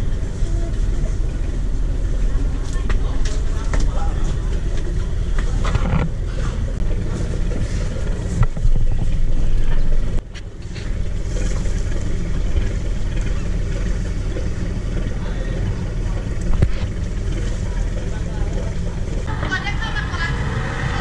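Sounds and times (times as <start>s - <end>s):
ferry engine rumbling: 0.0s - 21.0s.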